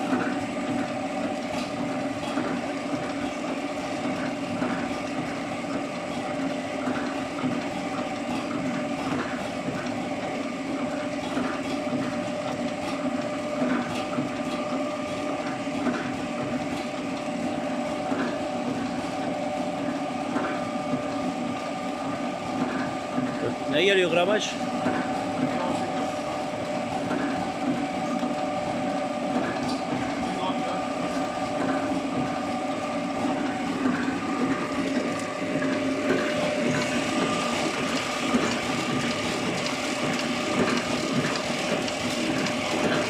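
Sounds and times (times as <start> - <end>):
packaging machine hum: 0.0 - 43.0.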